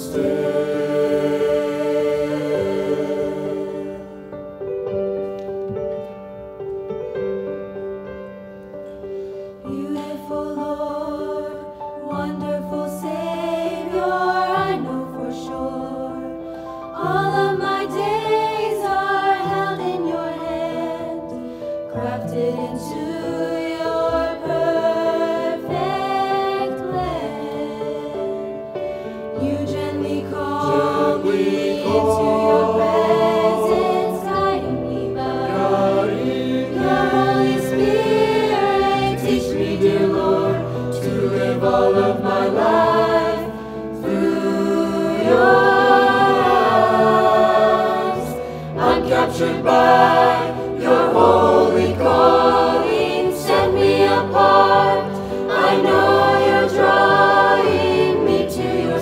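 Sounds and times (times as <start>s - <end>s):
mixed choir singing: 0.0s - 4.6s, 9.5s - 59.0s.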